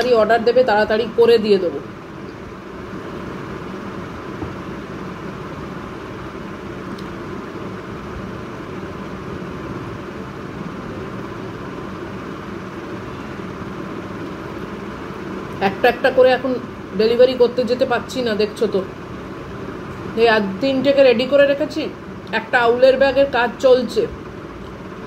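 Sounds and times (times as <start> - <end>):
background hum and hiss: 0.0 - 25.0.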